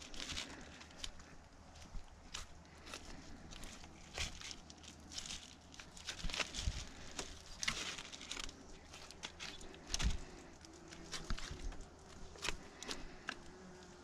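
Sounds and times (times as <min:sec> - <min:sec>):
sheet crinkling: 0:00.0 - 0:13.6.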